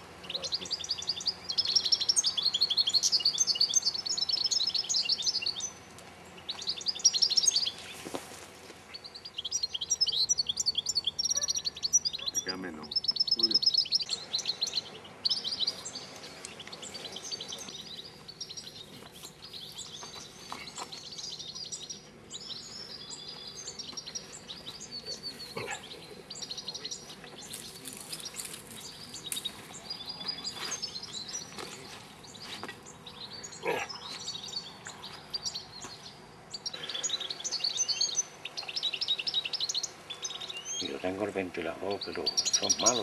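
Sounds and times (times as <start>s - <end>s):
goldfinches twittering: 0.0s - 8.0s, 8.8s - 43.0s.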